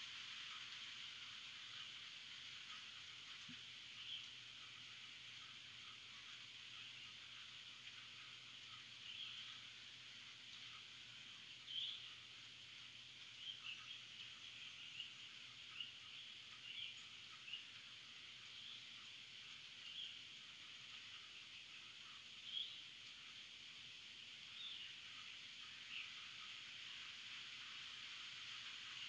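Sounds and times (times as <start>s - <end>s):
rain hissing: 0.0s - 29.0s
faint bird chirps: 0.5s - 29.0s.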